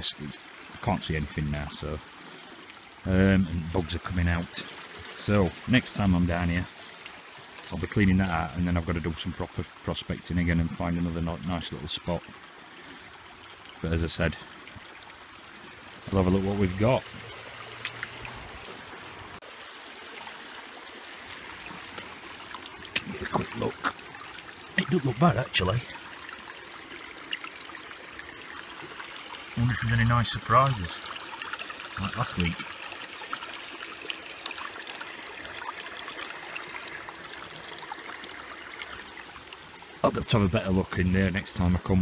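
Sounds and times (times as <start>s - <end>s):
creek water trickling over stones: 0.0s - 42.0s.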